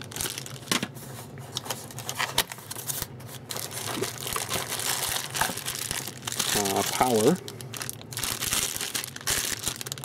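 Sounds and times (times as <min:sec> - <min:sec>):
plastic bag crinkling: 0:00.0 - 0:00.8, 0:01.5 - 0:10.0.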